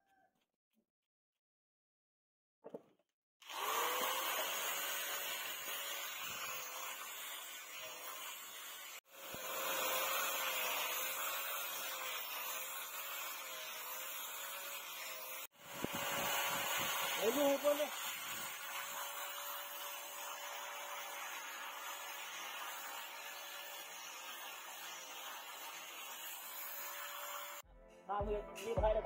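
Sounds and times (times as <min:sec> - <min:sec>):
angle grinder sanding wood: 0:03.4 - 0:27.7.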